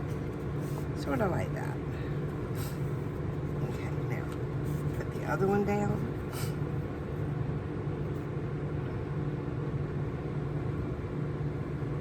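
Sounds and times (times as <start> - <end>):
low background hum with hiss: 0.0 - 12.0.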